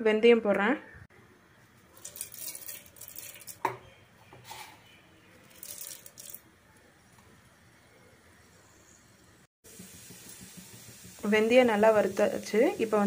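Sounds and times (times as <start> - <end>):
seeds sizzling in hot oil: 1.6 - 3.6, 4.4 - 13.0.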